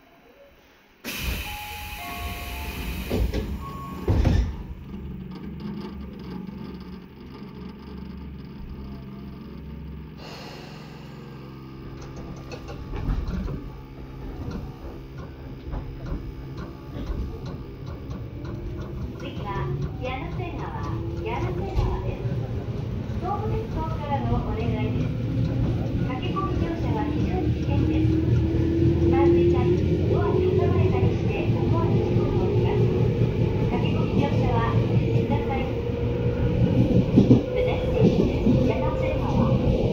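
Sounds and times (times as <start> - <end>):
train noise: 1.0 - 39.9.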